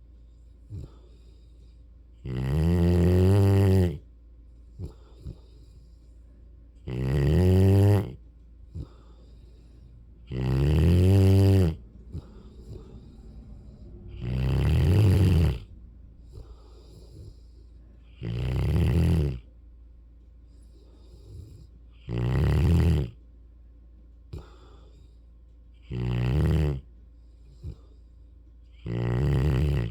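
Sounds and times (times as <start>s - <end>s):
puppy snoring deeply: 0.0s - 19.6s, 20.5s - 23.2s, 24.3s - 29.9s.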